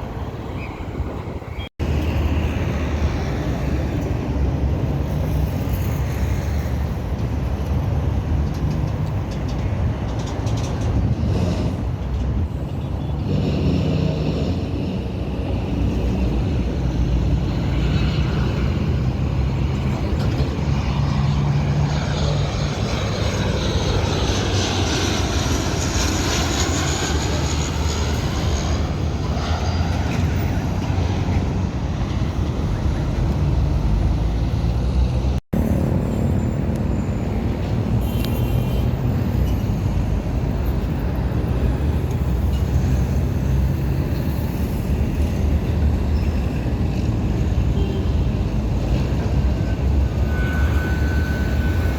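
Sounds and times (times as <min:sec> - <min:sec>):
airliner engines passing overhead: 0:00.0 - 0:51.9.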